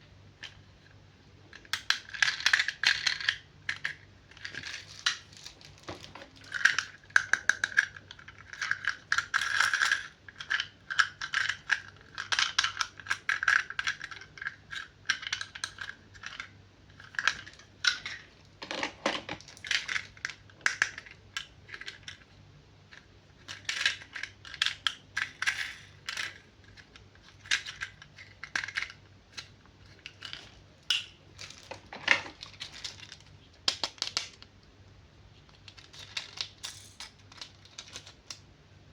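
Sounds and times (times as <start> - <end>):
faint electrical hum: 0.0 - 38.9
plastic packaging clicks and crinkles: 1.6 - 22.2, 26.2 - 34.5, 35.4 - 38.4.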